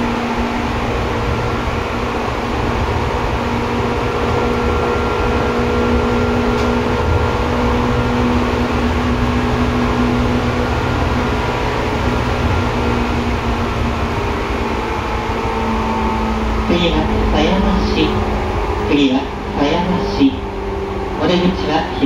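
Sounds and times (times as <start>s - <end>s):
electric train drive whine: 0.0s - 22.0s
train wheels rumbling on rail: 0.0s - 22.0s.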